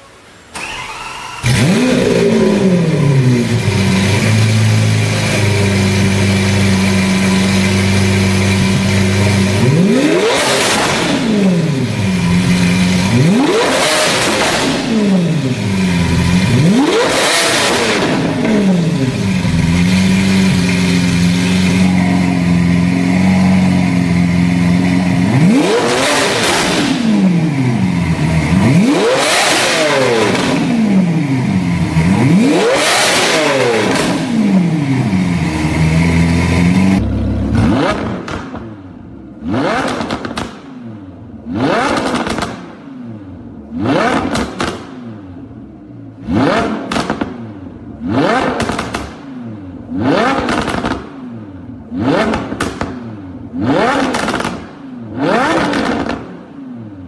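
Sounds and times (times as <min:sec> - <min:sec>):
car engine revving: 0:00.5 - 0:57.0.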